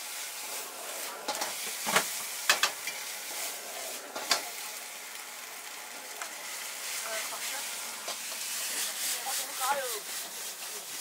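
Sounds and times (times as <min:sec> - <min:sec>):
food sizzling in a wok: 0:00.0 - 0:11.0
gas flame: 0:00.0 - 0:11.0.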